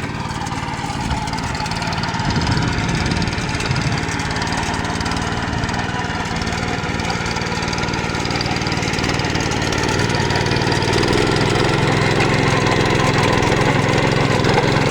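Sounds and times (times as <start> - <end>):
hand tractor engine running: 0.0 - 14.9.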